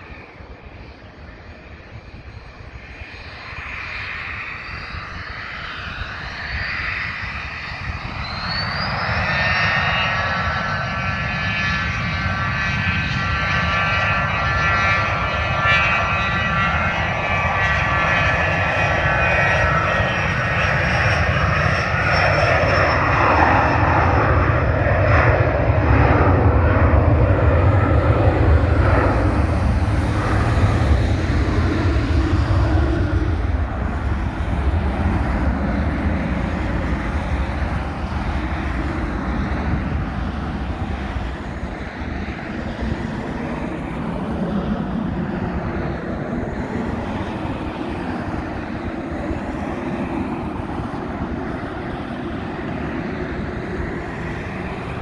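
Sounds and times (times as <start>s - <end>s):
jet deep rumble: 0.0s - 55.0s
jet engines whining: 0.0s - 55.0s.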